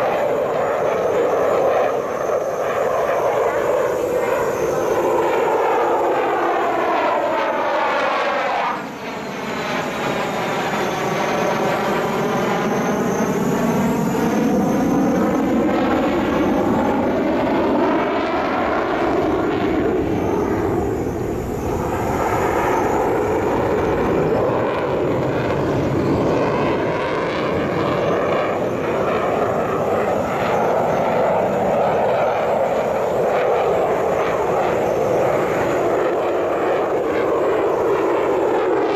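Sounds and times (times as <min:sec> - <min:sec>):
jet engine passing: 0:00.0 - 0:38.9.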